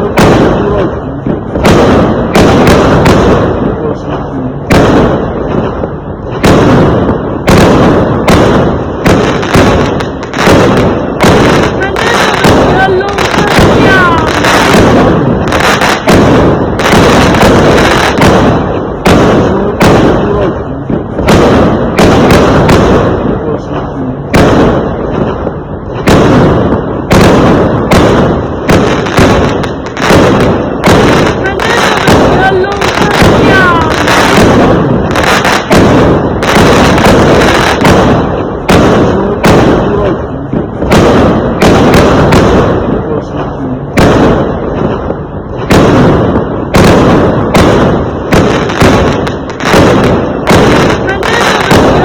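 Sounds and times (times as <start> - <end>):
fireworks exploding: 0.0 - 52.0.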